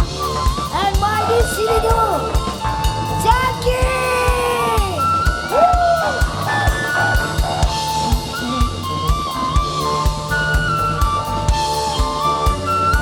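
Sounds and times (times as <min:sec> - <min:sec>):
kick drum strokes: 0:00.0 - 0:13.0
live band playing: 0:00.0 - 0:13.0
sliding lead melody: 0:00.0 - 0:13.0.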